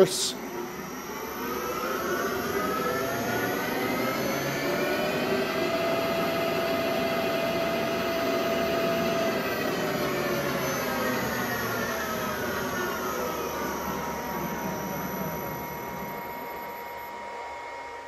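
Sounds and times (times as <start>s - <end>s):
lathe motor whining: 0.0s - 18.0s.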